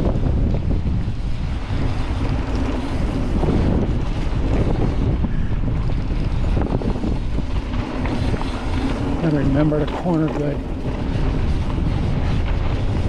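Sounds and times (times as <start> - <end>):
bike knocks and rattles: 0.0 - 13.0
tyres rumbling on dirt: 0.0 - 13.0
wind rushing on microphone: 0.0 - 13.0.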